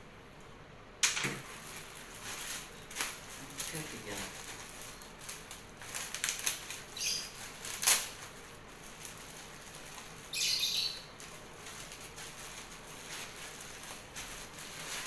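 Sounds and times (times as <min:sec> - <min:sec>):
netting rustling and flapping: 0:01.1 - 0:15.0.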